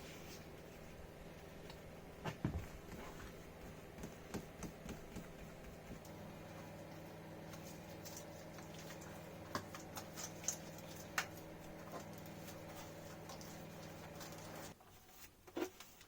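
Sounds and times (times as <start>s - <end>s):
steady machine hum: 0.0s - 14.8s.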